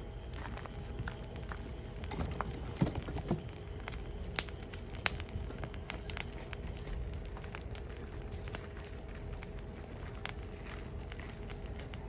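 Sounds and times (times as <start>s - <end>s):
firewood crackling and popping: 0.0s - 12.0s
low rumble of flames: 0.0s - 12.0s.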